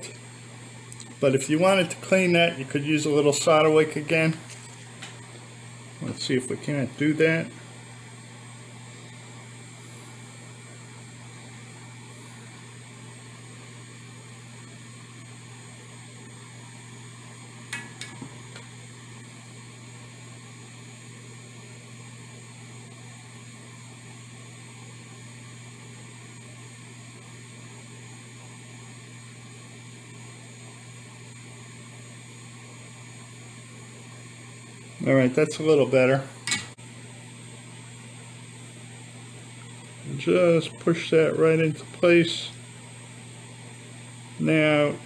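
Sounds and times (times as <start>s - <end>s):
low electrical hum with hiss: 0.0s - 45.0s.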